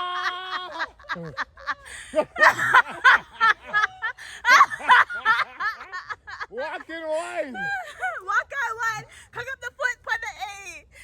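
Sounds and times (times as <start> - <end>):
people laughing: 0.0 - 9.0.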